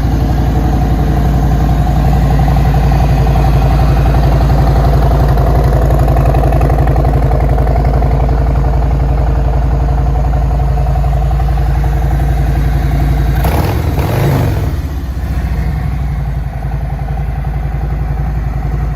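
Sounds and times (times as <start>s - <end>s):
motorcycle engine idling and revving: 0.0s - 18.9s.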